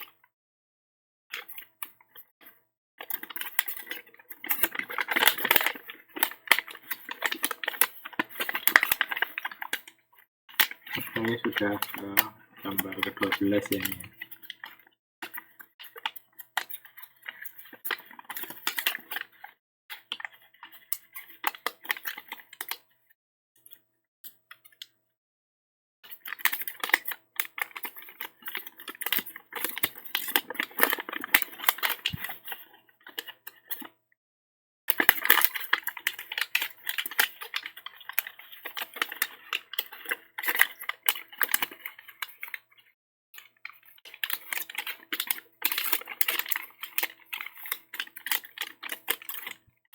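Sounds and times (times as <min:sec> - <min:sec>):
paper folding and crackling: 0:01.4 - 0:09.9, 0:10.5 - 0:22.8, 0:26.1 - 0:33.8, 0:34.9 - 0:49.6.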